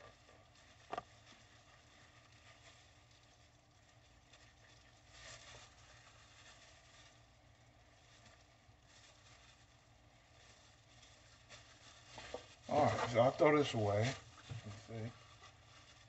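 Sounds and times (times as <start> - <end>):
faint handling noise: 0.0 - 16.0
rustle: 0.0 - 16.0.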